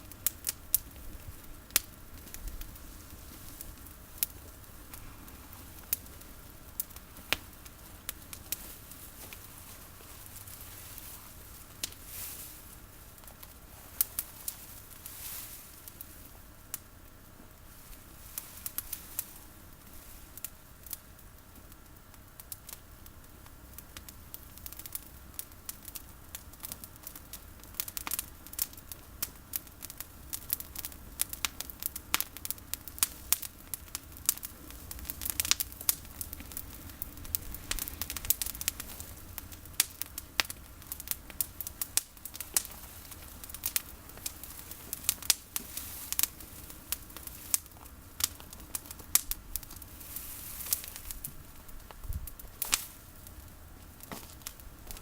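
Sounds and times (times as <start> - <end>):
bonfire crackling and snapping: 0.0 - 55.0.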